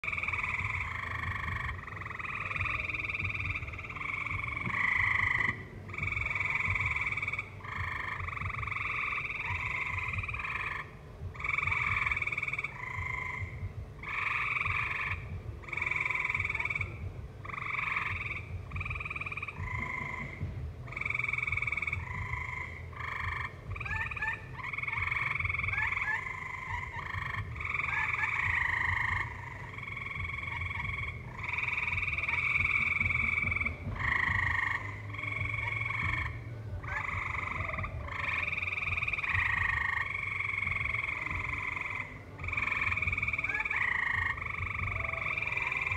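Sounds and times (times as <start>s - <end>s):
steady low rumble: 0.0s - 45.9s
tree frogs calling: 0.0s - 45.9s.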